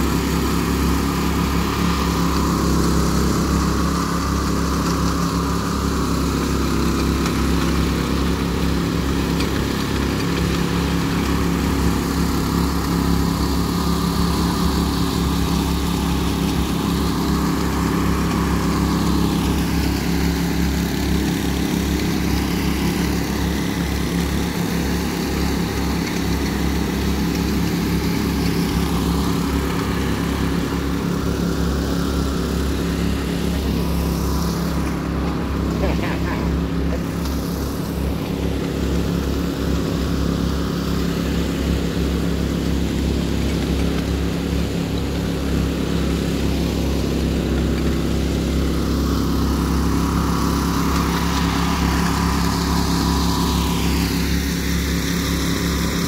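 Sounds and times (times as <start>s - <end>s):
power trowel engines running: 0.0s - 56.0s.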